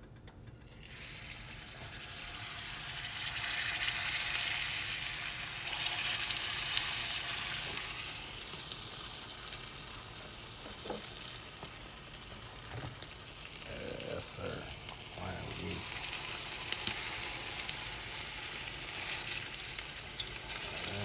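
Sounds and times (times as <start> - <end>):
food sizzling in a pan: 0.6 - 21.0.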